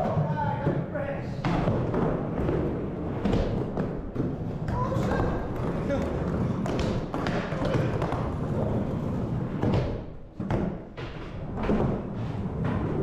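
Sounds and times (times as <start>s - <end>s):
skateboard wheels rumbling on ramp: 0.0s - 13.0s.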